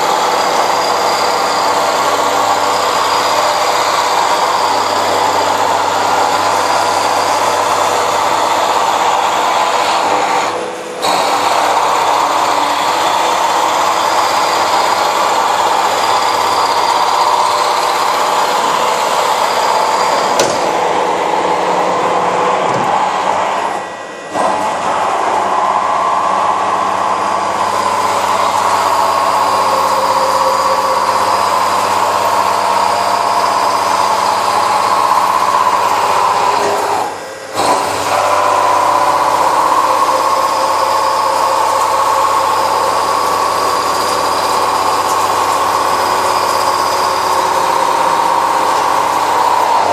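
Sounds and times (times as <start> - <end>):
milling machine whining: 0.0 - 49.9.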